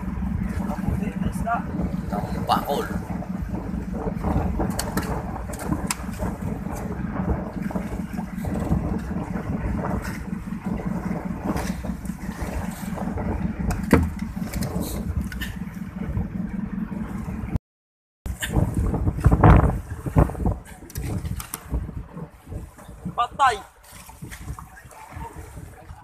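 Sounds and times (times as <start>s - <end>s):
boat engine rumbling: 0.0s - 17.6s, 18.2s - 26.0s.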